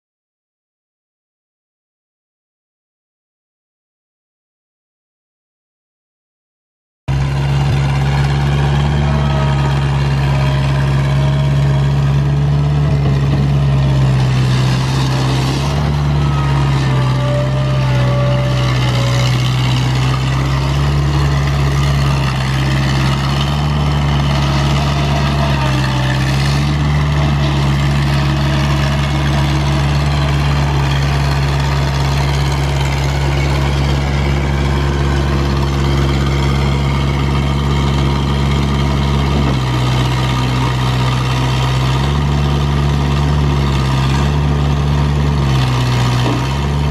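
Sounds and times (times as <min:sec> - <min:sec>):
skid steer engine running: 0:07.1 - 0:46.9.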